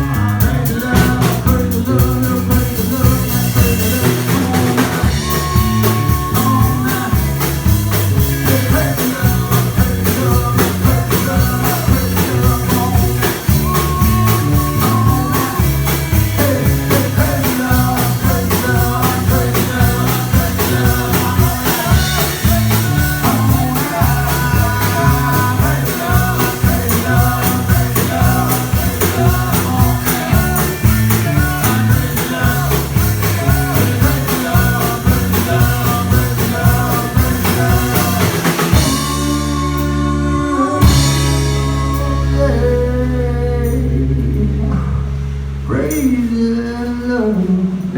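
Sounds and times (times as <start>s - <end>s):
live band playing: 0.0s - 47.1s.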